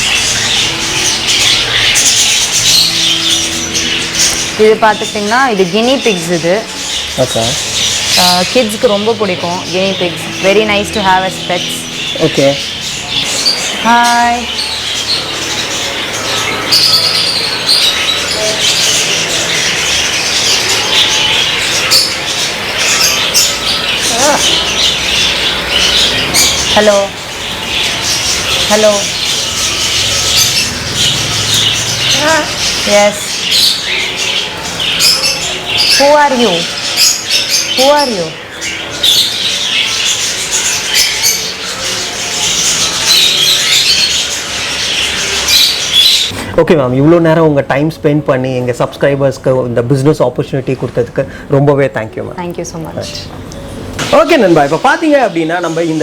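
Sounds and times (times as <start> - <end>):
caged birds chirping and squawking: 0.0 - 56.0.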